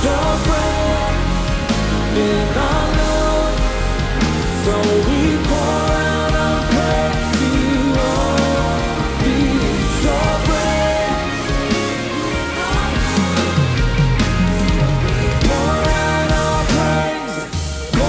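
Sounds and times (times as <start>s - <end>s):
live band playing rock ballad: 0.0s - 18.0s.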